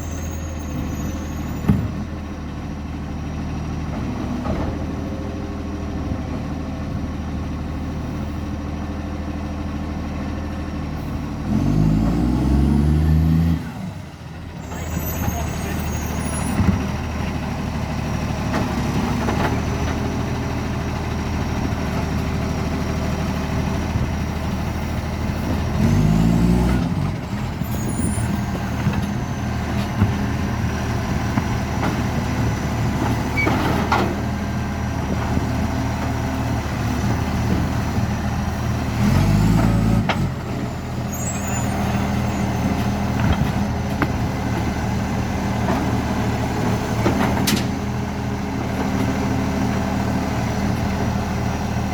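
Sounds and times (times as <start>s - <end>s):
diesel engine with exhaust leak: 0.0s - 51.9s.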